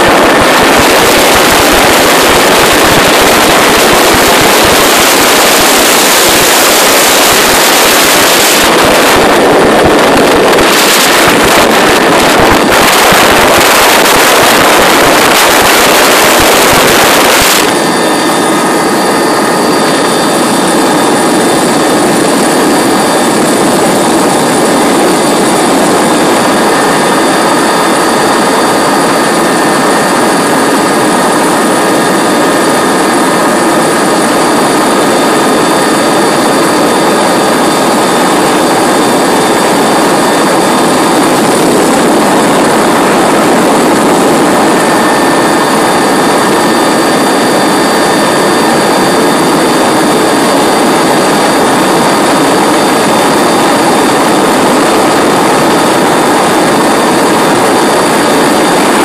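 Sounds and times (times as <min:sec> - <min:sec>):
helicopter rotor and air rush: 0:00.0 - 0:59.0
high turbine engine whine: 0:00.0 - 0:59.0.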